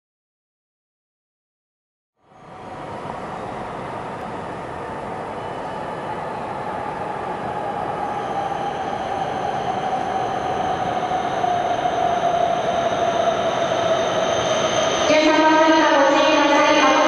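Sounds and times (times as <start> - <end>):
train rushing into platform: 2.2 - 17.0
train whine falling in pitch: 2.2 - 17.0.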